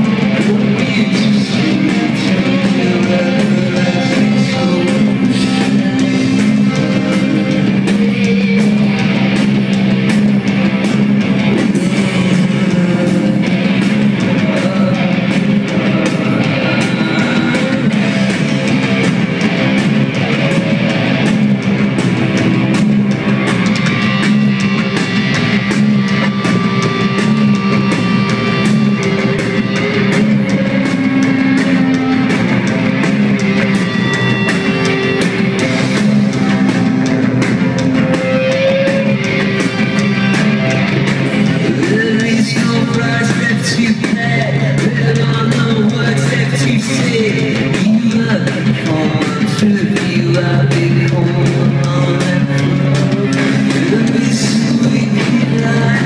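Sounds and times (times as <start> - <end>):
drum kit: 0.0 - 56.0
loud electric guitars: 0.0 - 56.0.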